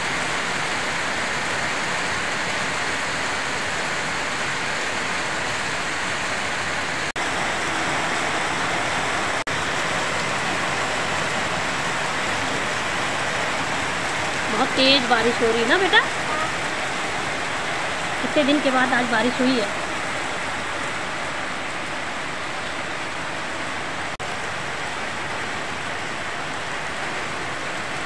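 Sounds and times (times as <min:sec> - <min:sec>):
heavy rain on pavement: 0:00.0 - 0:28.0.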